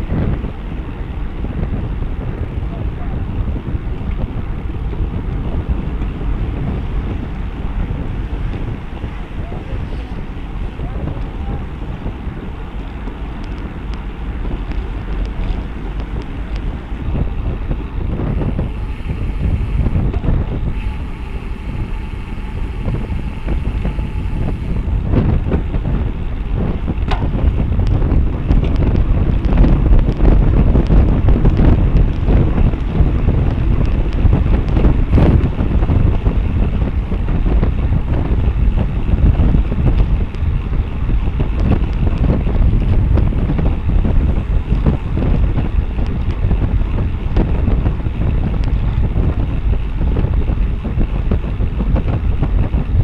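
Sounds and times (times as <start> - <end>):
road noise: 0.0 - 53.0
wind buffeting microphone: 0.0 - 53.0.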